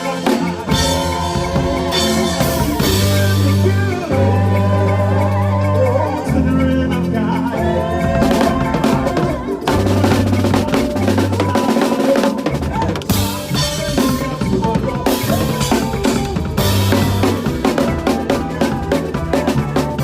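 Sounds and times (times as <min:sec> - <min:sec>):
drum kit playing a groove: 0:00.0 - 0:20.0
steady bass line: 0:00.0 - 0:20.0.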